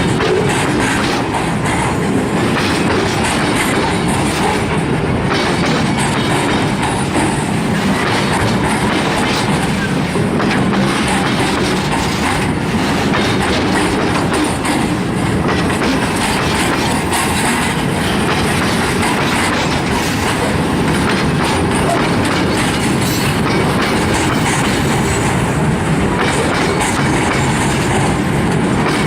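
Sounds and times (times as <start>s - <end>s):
freight train wheels clattering: 0.0s - 29.0s.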